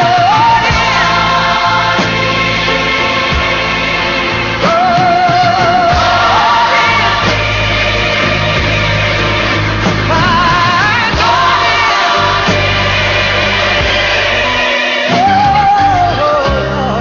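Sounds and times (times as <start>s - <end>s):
backing music: 0.0s - 17.0s
person singing gospel with vibrato: 0.0s - 17.0s.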